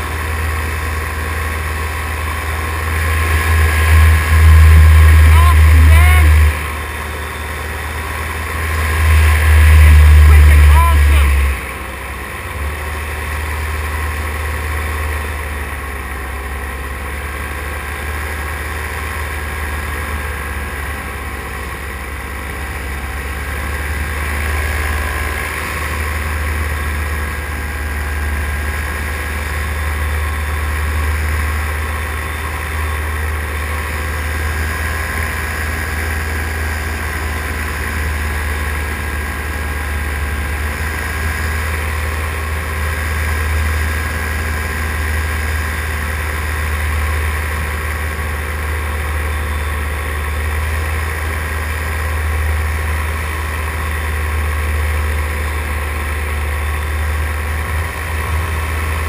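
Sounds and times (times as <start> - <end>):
paramotor engine drone: 0.0 - 59.0.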